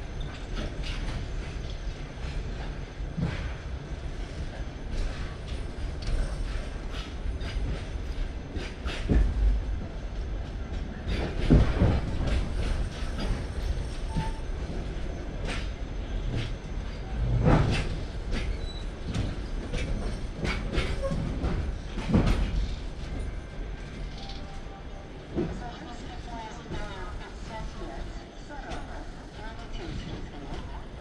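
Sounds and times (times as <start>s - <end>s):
low train rumble: 0.0s - 31.0s.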